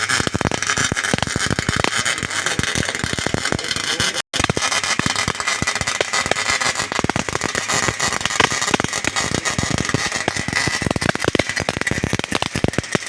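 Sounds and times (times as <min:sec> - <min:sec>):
welding arc crackling: 0:00.0 - 0:13.0.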